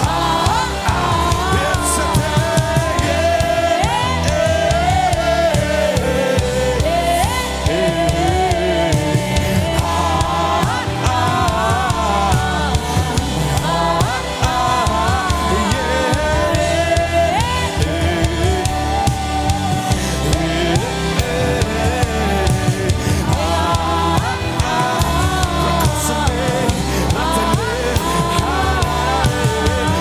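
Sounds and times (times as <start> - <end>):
drum beat: 0.0 - 30.0
person singing: 0.0 - 30.0
worship band playing: 0.0 - 30.0.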